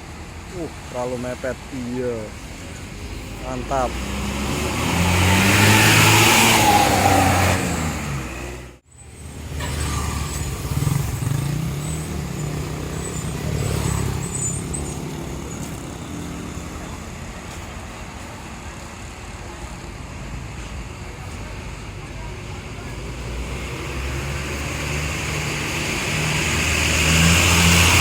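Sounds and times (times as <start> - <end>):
bus diesel engine moving off: 0.0 - 28.0
bus engine pulling away: 0.0 - 28.0.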